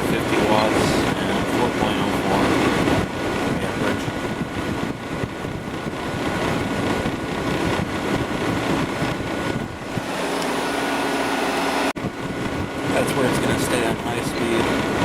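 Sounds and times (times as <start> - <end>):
air conditioner air rush: 0.0 - 15.0
steady hum: 0.0 - 15.0.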